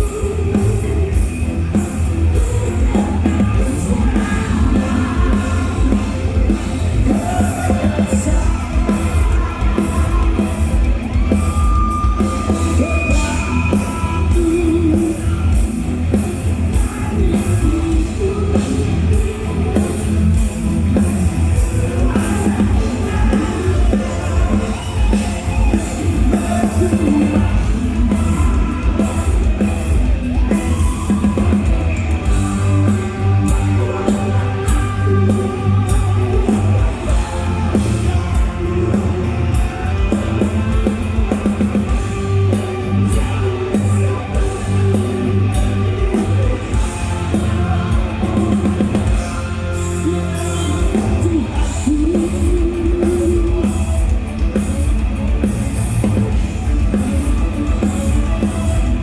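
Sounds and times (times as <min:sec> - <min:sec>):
person singing: 0:00.0 - 0:54.7
drum kit: 0:00.0 - 0:59.0
electric guitars: 0:00.0 - 0:59.0.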